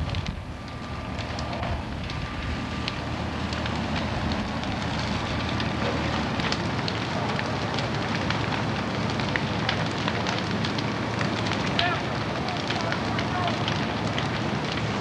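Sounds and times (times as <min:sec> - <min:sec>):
burning timber crackling: 0:00.0 - 0:15.0
rush of flames: 0:00.0 - 0:15.0.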